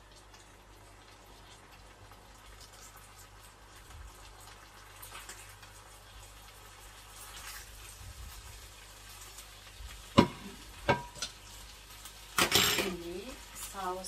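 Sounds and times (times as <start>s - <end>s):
pan frying sizzle: 0.0s - 14.0s.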